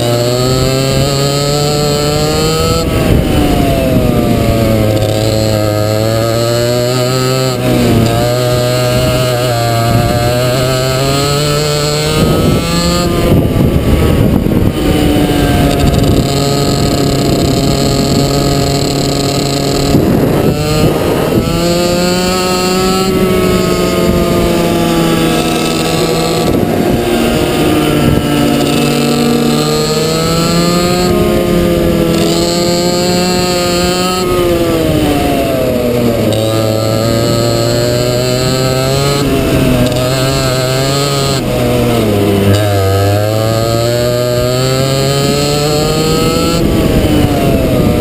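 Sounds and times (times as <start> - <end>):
racing kart engine revving: 0.0 - 48.0.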